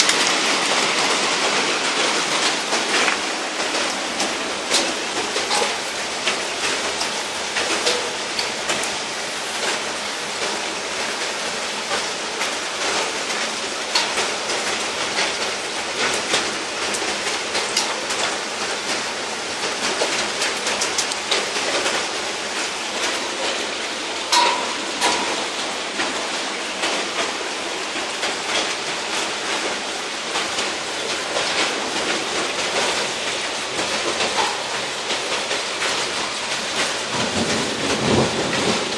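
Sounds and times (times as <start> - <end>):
hailstones ticking on hard surfaces: 0.0 - 38.9
heavy rain and hail hissing: 0.0 - 38.9.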